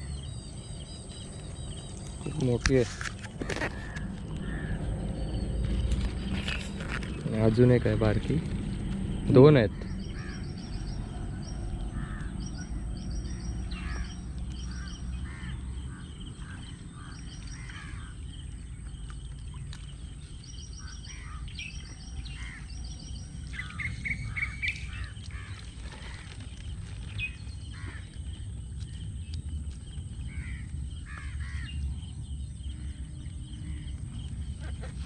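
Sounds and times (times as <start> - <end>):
birds calling and trilling: 0.0 - 35.0
low steady rumble: 0.0 - 35.0.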